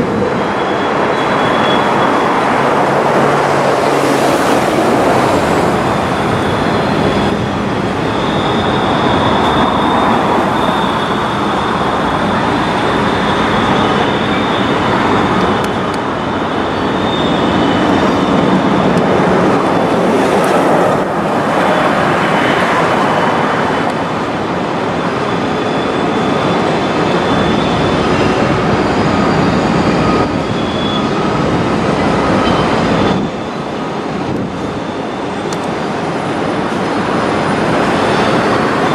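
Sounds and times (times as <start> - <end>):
freight train rolling past: 0.0 - 38.9
high wheel squeal: 0.0 - 38.9.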